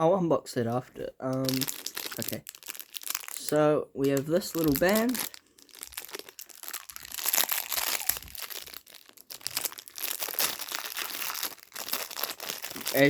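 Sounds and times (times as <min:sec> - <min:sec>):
plastic packaging crinkling: 0:01.3 - 0:13.0.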